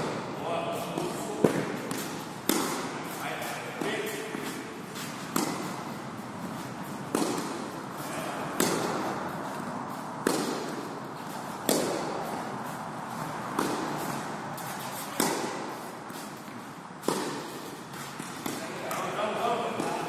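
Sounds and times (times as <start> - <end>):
tennis racket hitting ball: 0.0 - 20.0.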